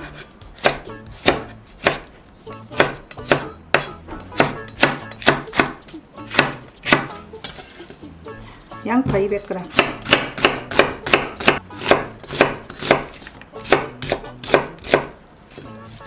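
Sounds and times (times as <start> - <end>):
knife chopping on wooden board: 0.0 - 7.6, 9.0 - 16.0.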